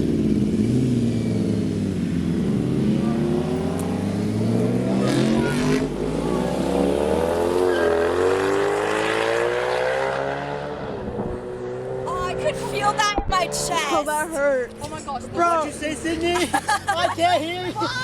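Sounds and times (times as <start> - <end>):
car engine accelerating: 0.0 - 17.4.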